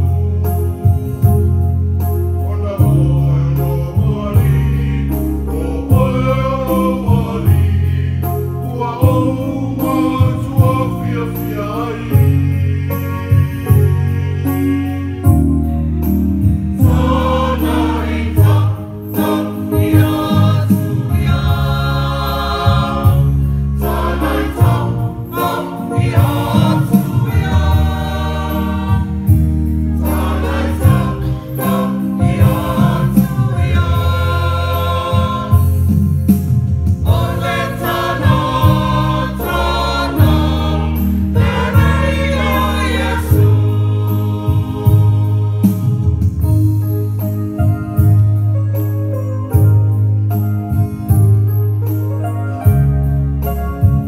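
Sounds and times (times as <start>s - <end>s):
church choir singing: 0.0s - 47.2s
electronic keyboard bass notes: 0.0s - 54.0s.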